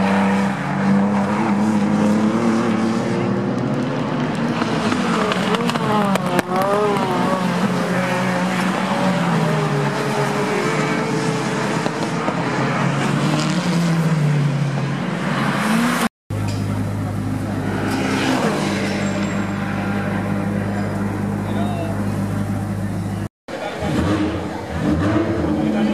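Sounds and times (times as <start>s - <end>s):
race car engines: 0.0s - 25.9s.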